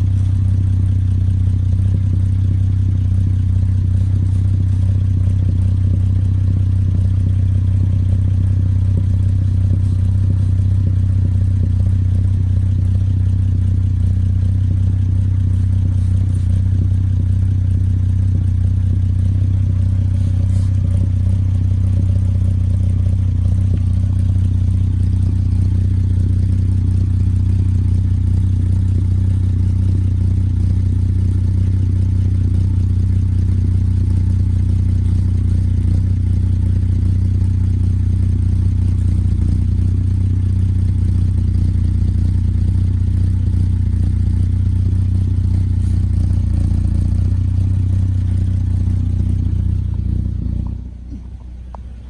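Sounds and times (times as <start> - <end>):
car exhaust idling drone: 0.0 - 52.0.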